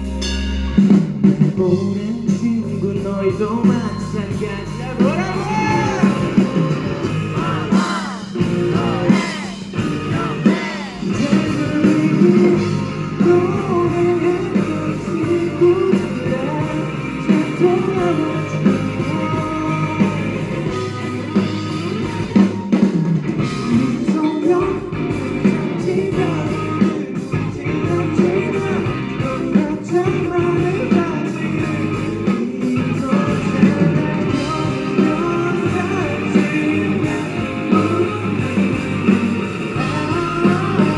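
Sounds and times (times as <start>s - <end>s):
live rock band with electric guitar: 0.0s - 40.9s
person singing: 1.4s - 22.8s, 23.4s - 40.9s.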